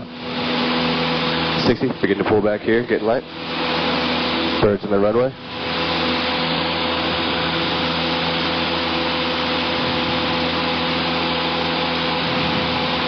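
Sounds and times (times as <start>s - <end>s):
airplane engine at full power: 0.0s - 13.0s.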